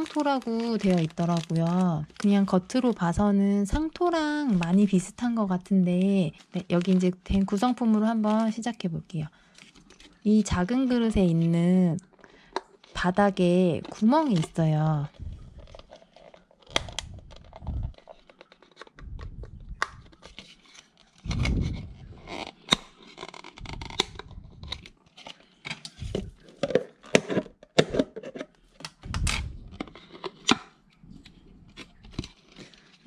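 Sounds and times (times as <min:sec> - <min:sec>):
plastic pot crackling: 0:00.0 - 0:33.0.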